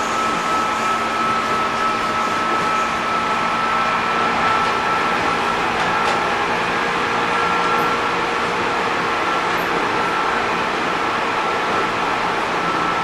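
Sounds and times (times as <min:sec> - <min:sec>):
steady train whine: 0:00.0 - 0:13.0
train wheels rumbling on rail: 0:00.0 - 0:13.0.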